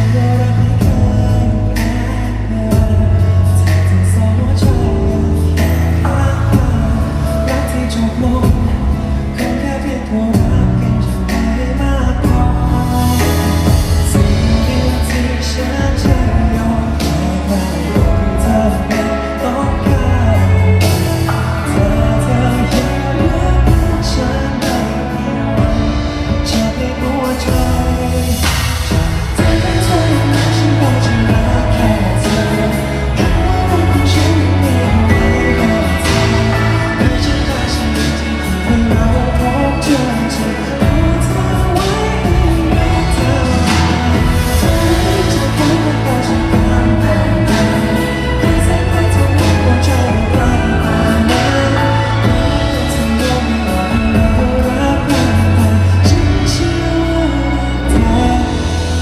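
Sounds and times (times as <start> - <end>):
band with bass and drums: 0.0 - 59.0
man singing: 0.0 - 59.0.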